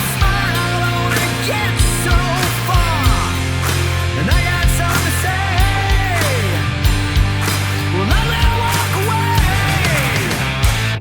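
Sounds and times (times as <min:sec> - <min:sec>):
drums: 0:00.0 - 0:11.0
electric guitar bending notes: 0:00.0 - 0:11.0
rock music: 0:00.0 - 0:11.0.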